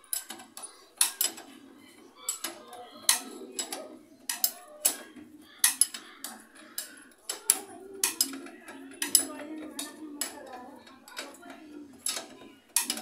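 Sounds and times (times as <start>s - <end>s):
metal tools clinking and knocking: 0.0s - 13.0s.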